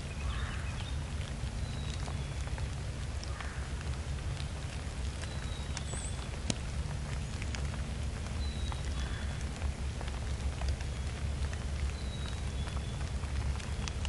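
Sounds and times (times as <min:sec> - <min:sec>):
light ticks and pattering: 0:00.0 - 0:14.0
steady low rumble: 0:00.0 - 0:14.0.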